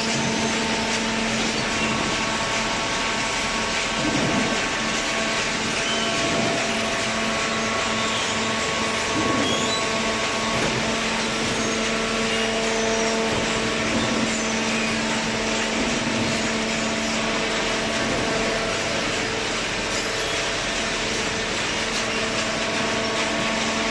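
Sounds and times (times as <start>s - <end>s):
baler machine humming: 0.0s - 23.9s.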